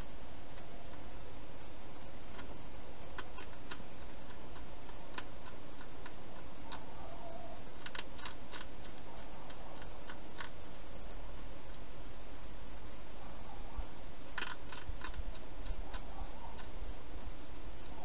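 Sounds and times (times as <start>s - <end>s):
hedgehog chewing clicks: 0.4s - 18.0s.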